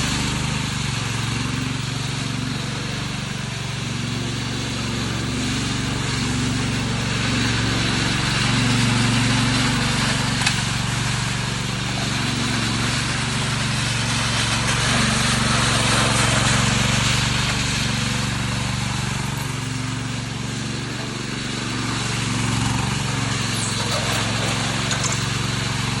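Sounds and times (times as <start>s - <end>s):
power trowel engine running: 0.0s - 26.0s.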